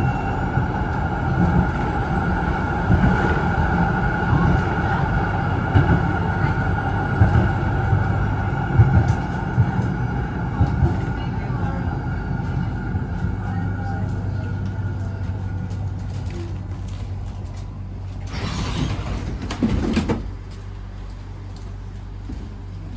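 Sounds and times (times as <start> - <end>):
tram running rumble: 0.0 - 22.9.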